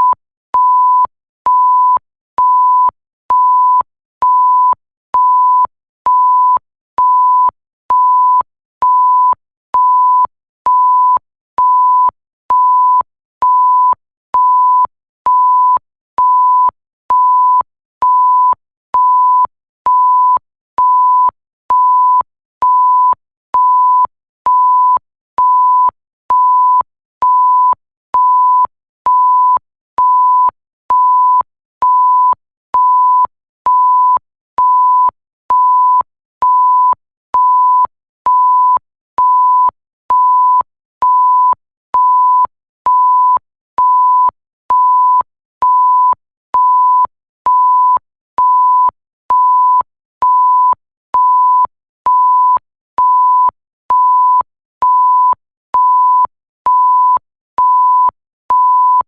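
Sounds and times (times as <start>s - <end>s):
electronic censor bleep: 0.0s - 59.0s
faint bleep click: 0.0s - 59.0s.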